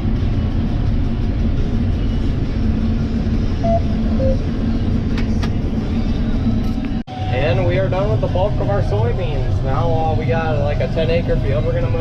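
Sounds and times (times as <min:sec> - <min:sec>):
combine harvester rumbling: 0:00.0 - 0:12.0.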